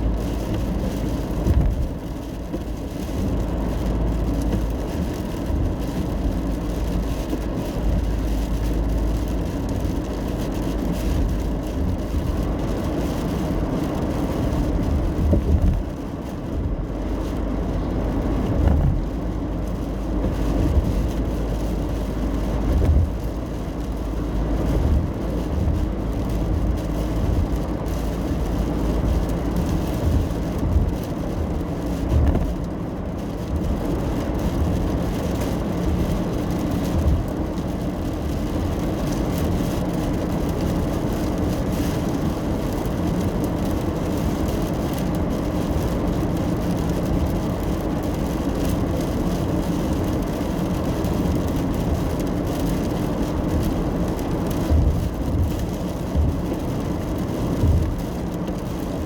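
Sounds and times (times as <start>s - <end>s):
low thumps from road: 0.0s - 59.0s
rain and spray: 0.0s - 59.0s
tyres and engine rumble: 0.0s - 59.0s.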